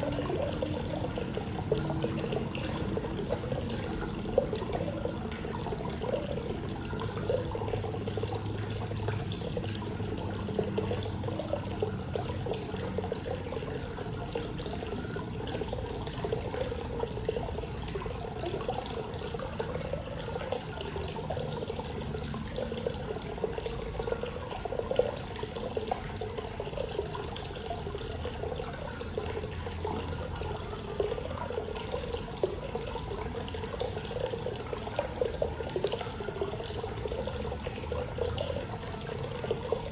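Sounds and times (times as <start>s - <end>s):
water pouring into bath: 0.0s - 39.9s.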